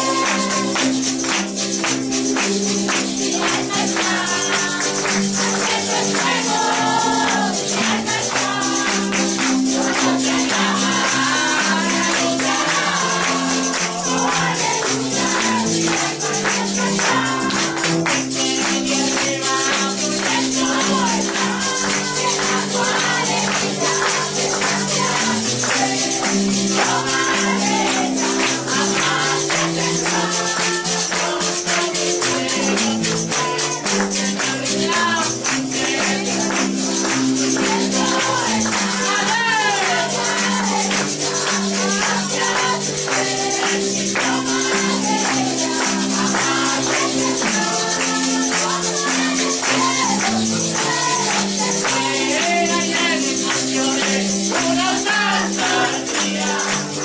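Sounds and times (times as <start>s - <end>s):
many voices singing: 0.0s - 57.0s
tambourine shaken: 0.0s - 57.0s.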